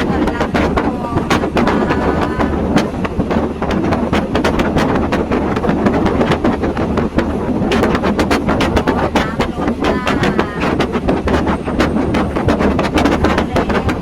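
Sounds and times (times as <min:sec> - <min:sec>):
train rumbling: 0:00.0 - 0:14.0
wheels rattling and clicking: 0:00.0 - 0:14.0
wind noise on microphone: 0:00.0 - 0:14.0.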